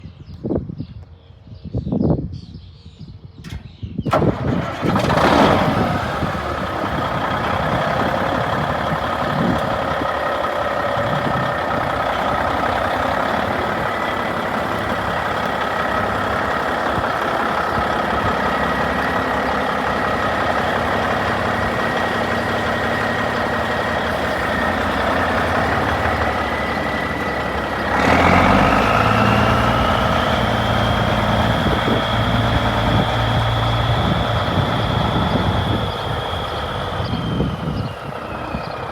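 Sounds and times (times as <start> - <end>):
high engine whine: 3.5 - 38.9
diesel truck engine idling: 4.1 - 38.9.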